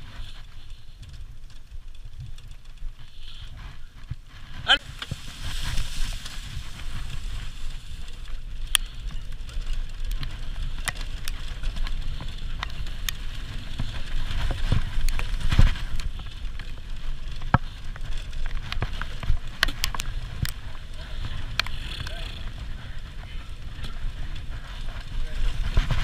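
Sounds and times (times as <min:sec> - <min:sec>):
cart wheels rumbling on dirt: 0:00.0 - 0:26.0
grit and leaves crackling: 0:00.0 - 0:26.0.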